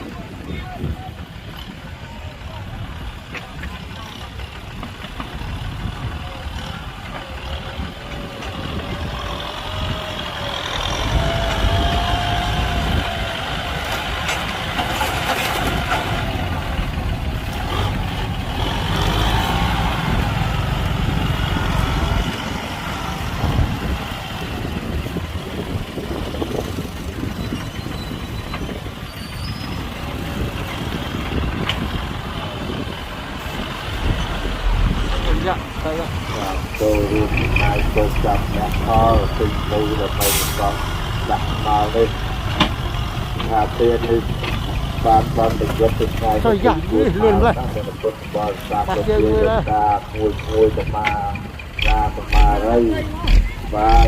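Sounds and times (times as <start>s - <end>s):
heavy vehicle engine rumbling: 0.0s - 54.0s.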